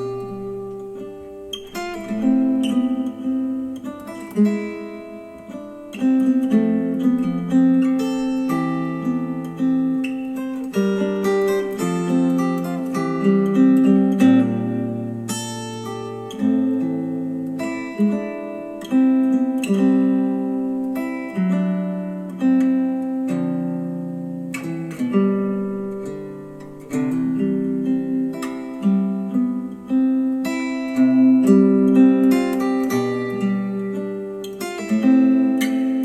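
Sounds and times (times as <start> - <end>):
acoustic guitar strummed chords: 0.0 - 36.0.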